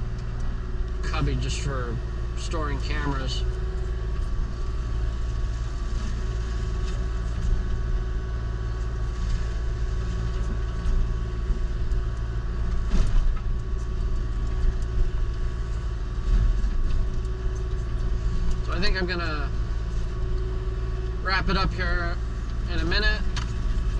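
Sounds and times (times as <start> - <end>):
excavator engine and hydraulics: 0.0 - 23.9
mulcher whine: 0.0 - 23.9.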